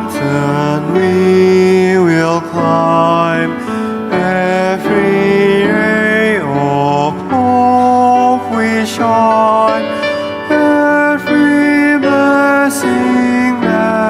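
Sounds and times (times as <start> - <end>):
choir singing in harmony: 0.0 - 14.0.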